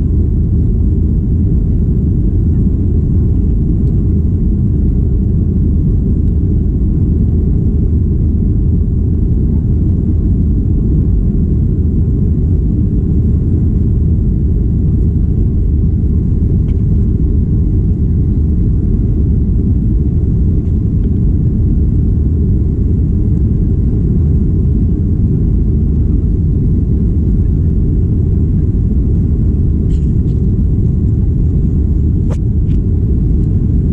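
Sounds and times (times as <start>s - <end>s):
airliner cabin jet rumble: 0.0s - 33.9s.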